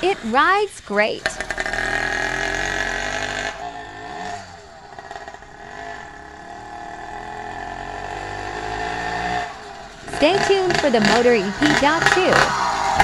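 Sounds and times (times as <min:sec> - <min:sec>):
two-stroke engine running: 0:00.0 - 0:13.0.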